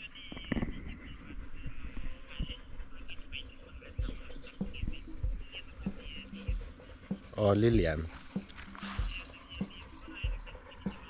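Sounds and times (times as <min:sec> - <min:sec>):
low thumps on microphone: 0:00.3 - 0:11.0.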